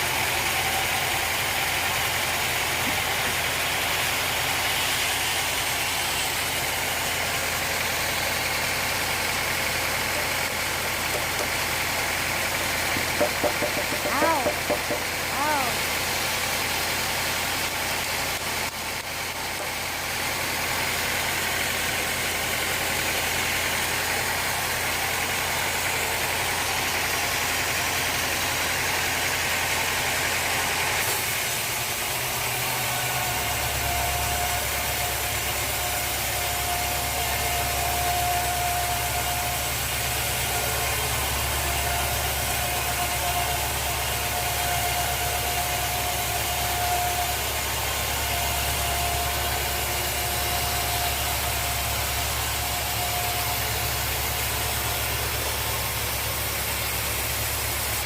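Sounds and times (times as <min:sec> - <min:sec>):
sawmill machinery motor drone: 0:00.0 - 0:58.0.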